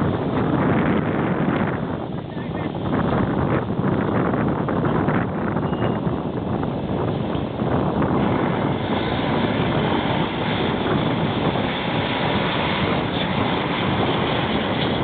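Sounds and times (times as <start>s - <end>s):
blizzard wind on microphone: 0.0s - 15.0s.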